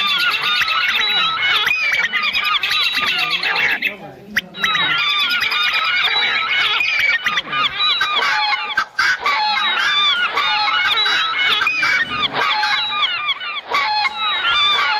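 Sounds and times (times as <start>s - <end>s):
flock of birds squawking: 0.0s - 14.9s.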